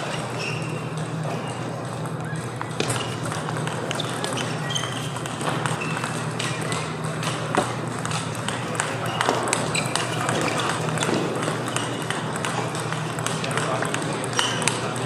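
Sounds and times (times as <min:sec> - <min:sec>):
steady low hum: 0:00.0 - 0:15.0
table tennis ball clicks: 0:00.5 - 0:15.0.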